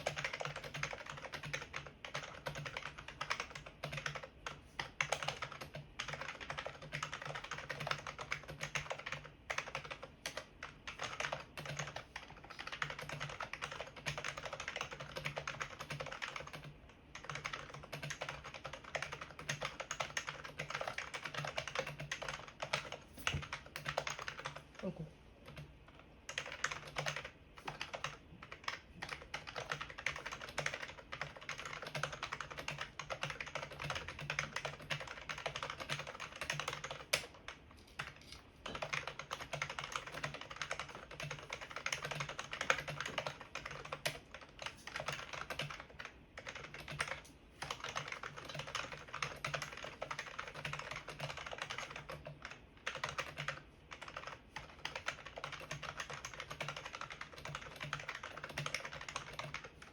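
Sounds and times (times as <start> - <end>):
fast keyboard typing: 0.0 - 59.9.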